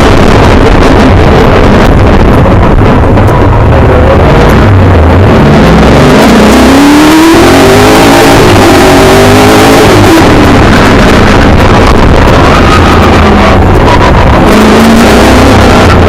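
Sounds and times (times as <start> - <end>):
racing car engine accelerating: 0.0 - 16.0.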